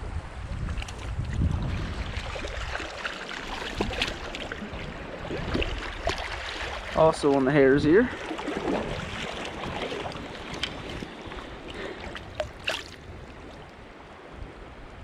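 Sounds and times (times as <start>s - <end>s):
creek water flowing: 0.1s - 14.4s
water splashes: 0.4s - 14.0s.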